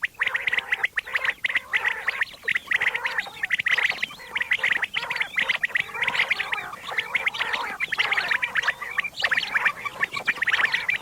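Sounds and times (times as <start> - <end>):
quail calling: 0.0 - 11.0.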